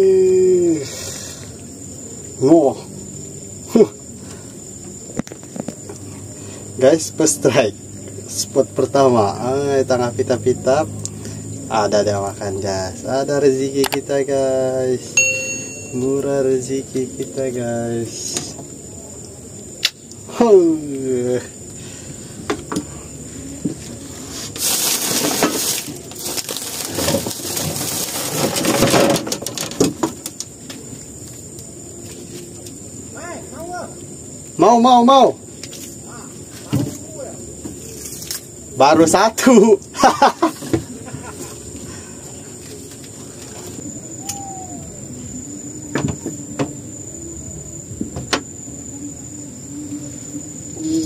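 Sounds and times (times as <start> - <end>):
night insects droning: 0.0 - 51.0.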